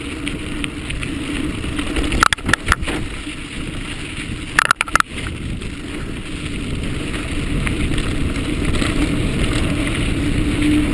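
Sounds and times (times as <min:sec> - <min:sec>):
bike clattering over bumps: 0:00.0 - 0:10.9
bike tyres rumbling on trail: 0:00.0 - 0:10.9
wind buffeting microphone: 0:00.0 - 0:10.9.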